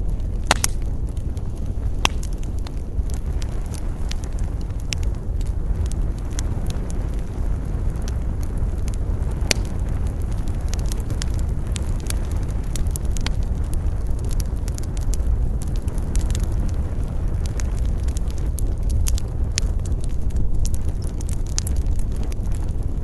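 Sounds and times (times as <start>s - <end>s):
campfire crackling and popping: 0.0s - 23.0s
low rumble of wind: 0.0s - 23.0s.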